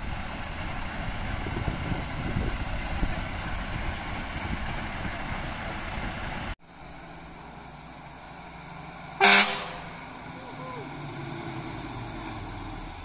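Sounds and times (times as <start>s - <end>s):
fire engines idling: 0.0s - 13.0s
steady engine hum: 0.0s - 13.0s.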